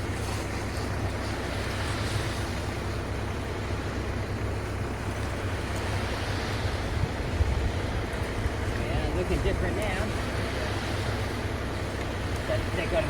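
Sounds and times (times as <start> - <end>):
continuous rushing noise: 0.0 - 13.0
low engine rumble: 0.0 - 13.0.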